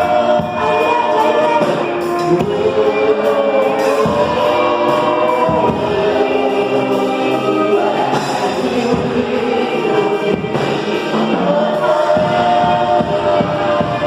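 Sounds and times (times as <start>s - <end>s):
group of voices singing: 0.0s - 14.0s
worship band playing: 0.0s - 14.0s.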